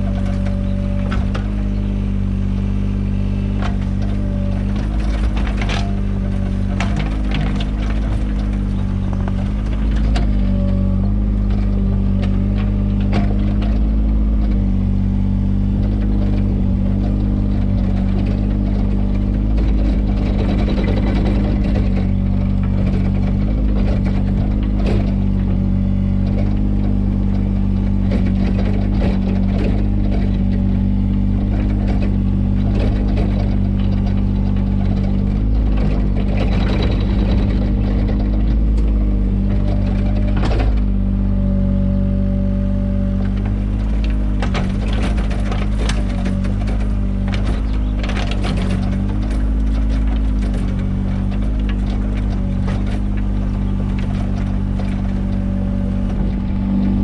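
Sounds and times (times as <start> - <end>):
machine knocks and clanks: 0.0 - 41.4, 43.0 - 57.0
excavator engine running: 0.0 - 57.0.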